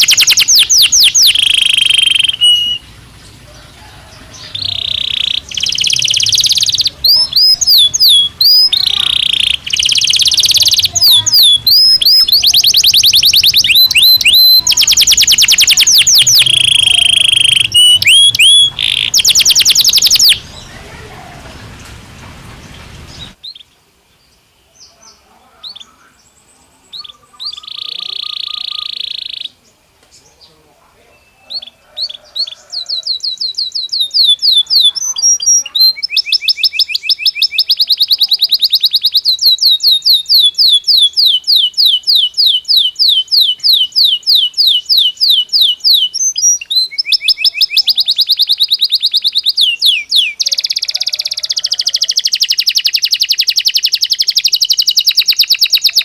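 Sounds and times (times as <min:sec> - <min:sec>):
canary singing trills: 0:00.0 - 0:21.4, 0:24.7 - 0:56.0.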